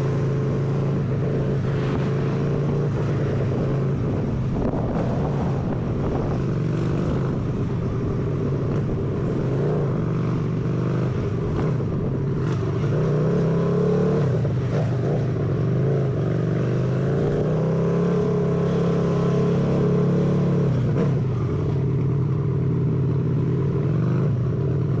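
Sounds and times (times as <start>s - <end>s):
motorcycle engine running: 0.0s - 17.3s, 20.2s - 25.0s.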